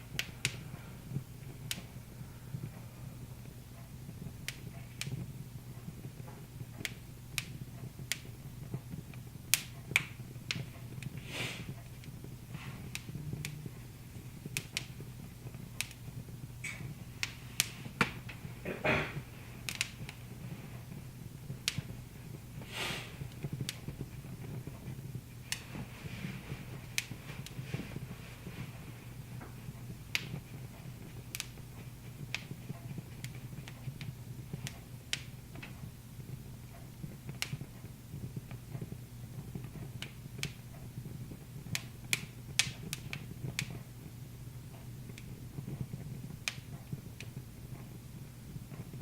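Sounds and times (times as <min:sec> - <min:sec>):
steady low hum: 0:00.0 - 0:49.0
wood fire crackling: 0:00.0 - 0:49.0.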